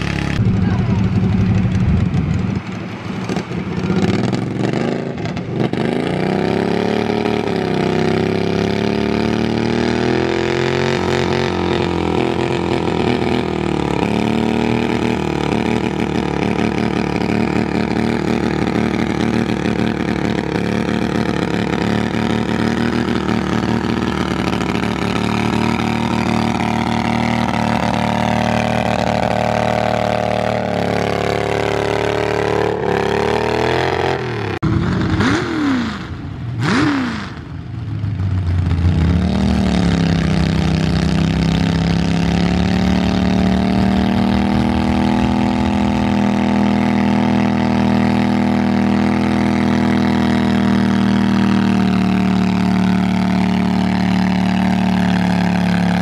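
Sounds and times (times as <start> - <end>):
tractor engine running under load: 0.0 - 35.3, 37.4 - 56.0.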